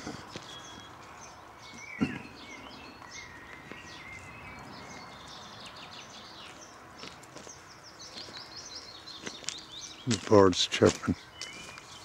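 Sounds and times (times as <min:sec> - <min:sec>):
small birds chirping and twittering: 0:00.0 - 0:12.0
steady outdoor hiss: 0:00.0 - 0:12.0.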